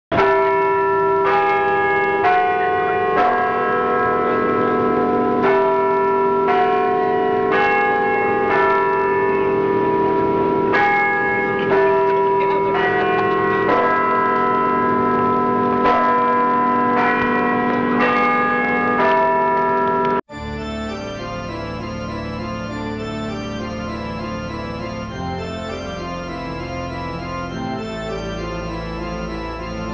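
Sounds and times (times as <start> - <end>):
bells ringing: 0.1 - 29.9.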